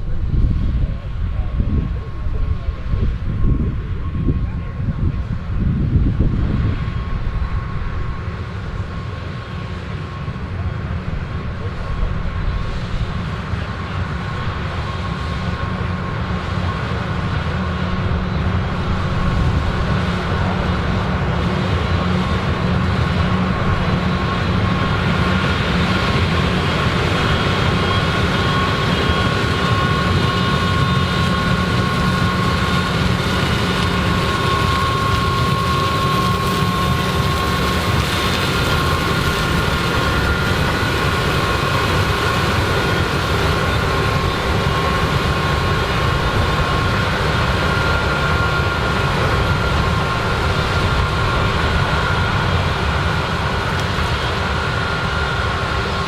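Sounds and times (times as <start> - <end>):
combine harvester engine drone: 0.0 - 56.0
steady high whine: 0.0 - 56.0.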